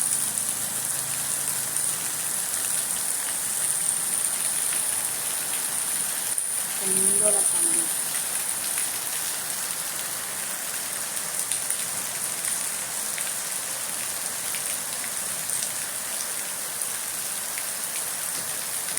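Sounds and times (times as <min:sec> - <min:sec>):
rain falling on surfaces: 0:00.0 - 0:18.9.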